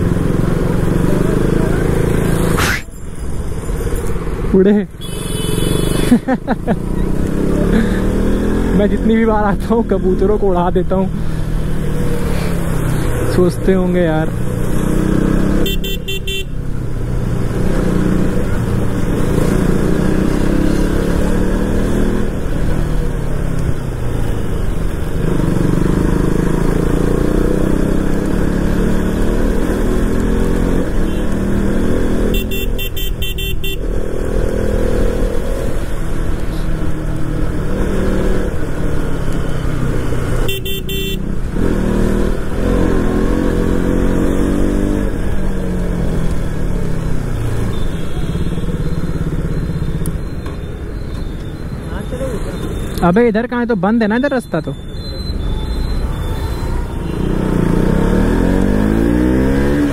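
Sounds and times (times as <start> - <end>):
motorcycle engine revving: 5.0 - 23.3, 24.0 - 50.6, 55.9 - 59.9.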